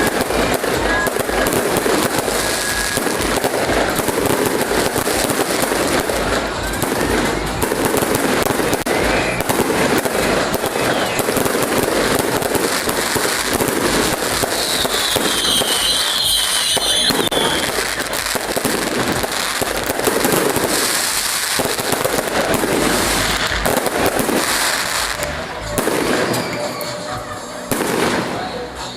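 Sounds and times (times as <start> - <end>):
high shrill firework whistle: 0.0 - 6.1, 7.9 - 28.9
fireworks bangs and crackling: 0.0 - 28.9.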